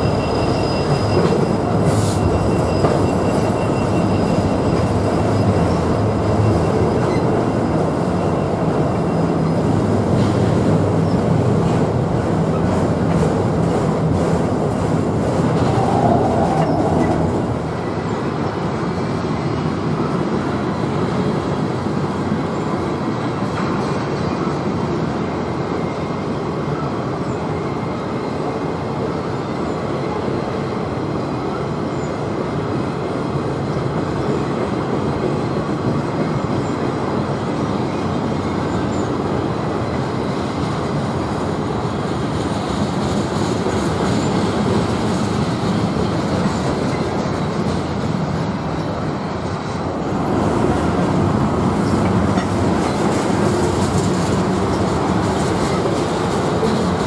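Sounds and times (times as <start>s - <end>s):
train wheels rolling on rails: 0.0s - 57.0s.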